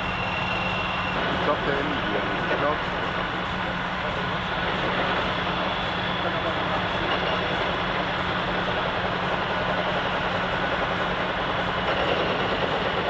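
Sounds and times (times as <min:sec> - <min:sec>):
heavy machinery engines idling: 0:00.0 - 0:13.0.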